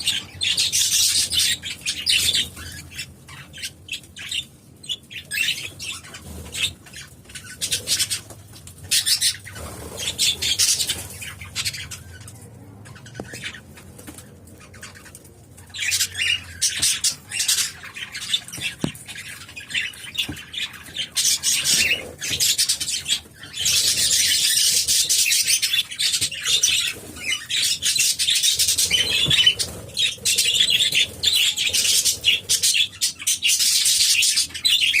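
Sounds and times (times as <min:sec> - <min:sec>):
budgerigars and cockatiels chattering: 0:00.0 - 0:35.0.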